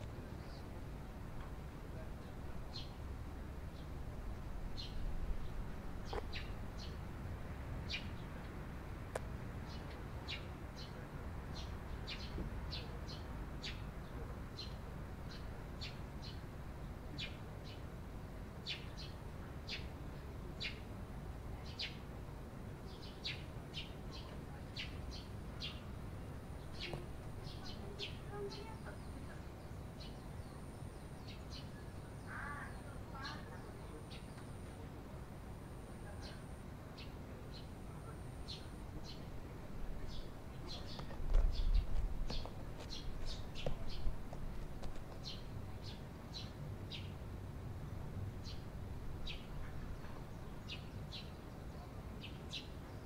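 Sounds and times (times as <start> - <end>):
sparrows chirping: 2.0 - 7.2, 7.8 - 8.6, 9.6 - 20.9, 21.5 - 22.1, 22.8 - 35.1, 35.8 - 53.0.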